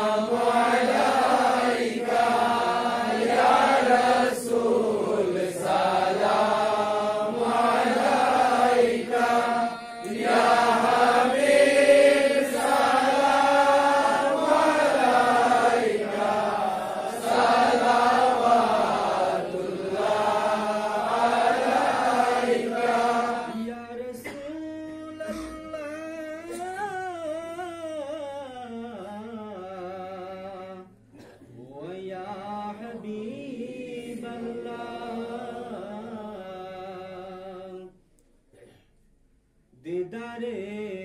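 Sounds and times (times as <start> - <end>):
men chanting a devotional hymn: 0.0 - 38.0, 39.8 - 41.0.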